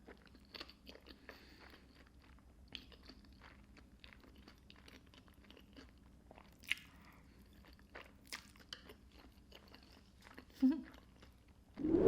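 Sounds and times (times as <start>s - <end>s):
chewing with soft crunching: 0.0s - 11.7s.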